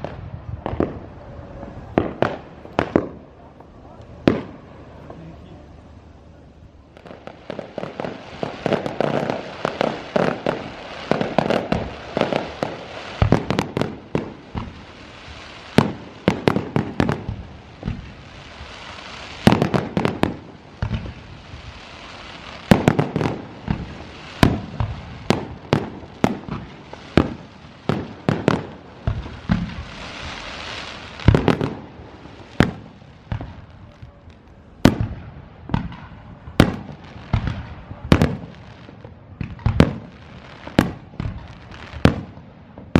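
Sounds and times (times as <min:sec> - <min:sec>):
firework shells booming: 0:00.0 - 0:05.2, 0:06.9 - 0:18.7, 0:19.3 - 0:21.8, 0:22.6 - 0:42.9
crackling hiss: 0:00.0 - 0:42.9
firework cracks: 0:00.0 - 0:42.9.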